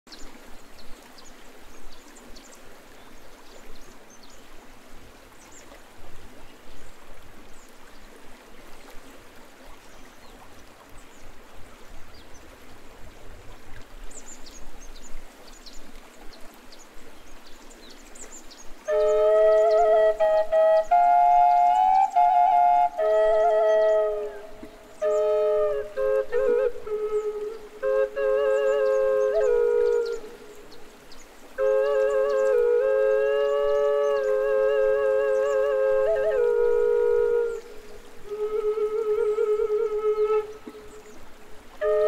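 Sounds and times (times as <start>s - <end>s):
stream running over stones: 0.1s - 42.0s.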